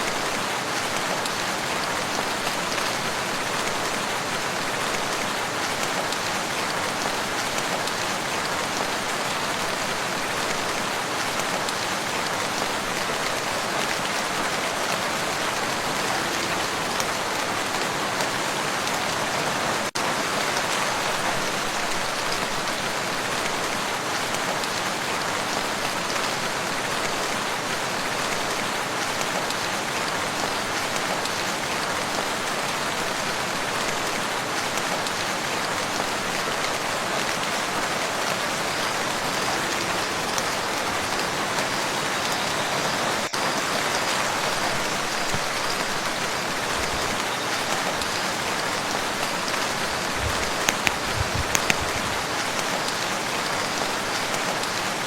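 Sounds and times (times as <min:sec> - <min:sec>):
heavy rain on lake: 0:00.0 - 0:55.0.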